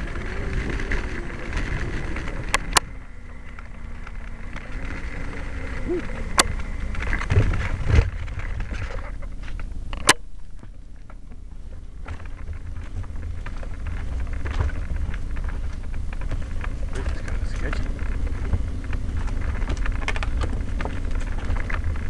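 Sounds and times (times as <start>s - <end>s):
bumps and knocks from riding: 0.0s - 22.0s
wind rumbling on microphone: 0.0s - 22.0s.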